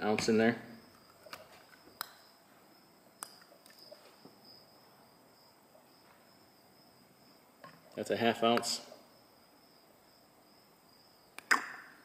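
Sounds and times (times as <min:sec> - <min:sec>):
cricket chirring: 0:00.0 - 0:12.0.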